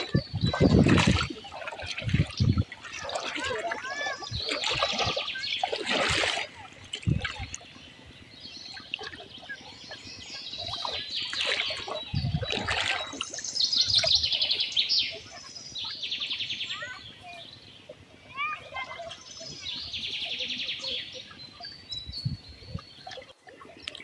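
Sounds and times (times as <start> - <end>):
birds chirping: 0.0 - 24.0
water splashing and swishing: 0.0 - 24.0.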